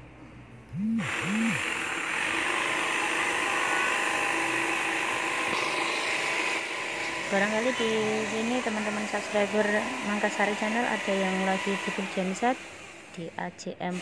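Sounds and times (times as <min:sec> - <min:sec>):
jigsaw cutting plywood: 0:00.8 - 0:12.9.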